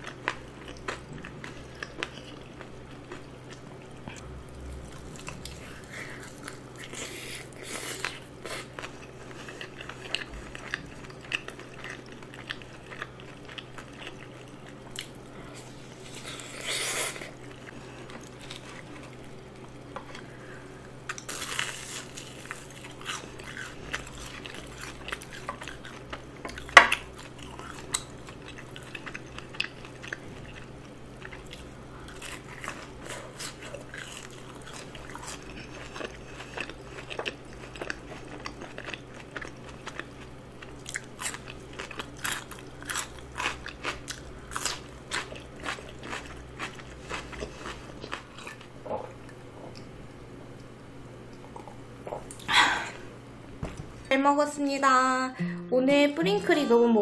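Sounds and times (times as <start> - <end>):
crunchy food chewing: 0.0 - 50.7.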